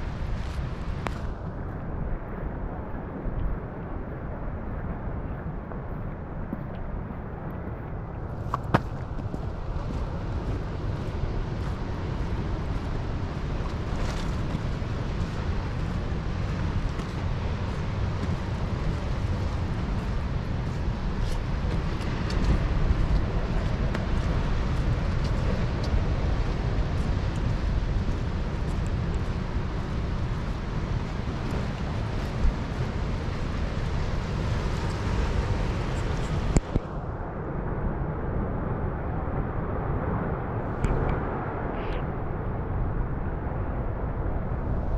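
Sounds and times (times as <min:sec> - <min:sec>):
ocean surf: 0:00.0 - 0:07.2, 0:07.8 - 0:44.9
moving water: 0:00.0 - 0:36.8
wind buffeting microphone: 0:00.0 - 0:44.9.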